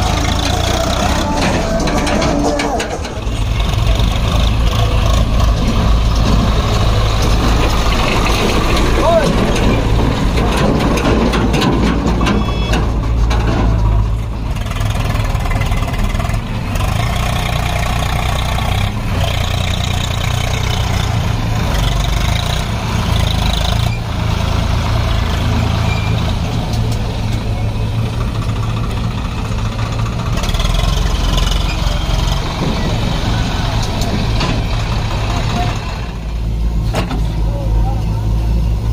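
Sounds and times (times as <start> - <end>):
diesel engines running: 0.0 - 38.9.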